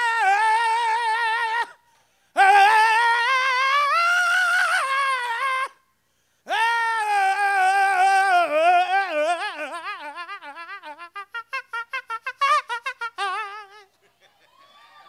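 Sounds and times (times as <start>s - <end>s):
man singing: 0.0s - 1.8s, 2.4s - 5.8s, 6.5s - 14.0s.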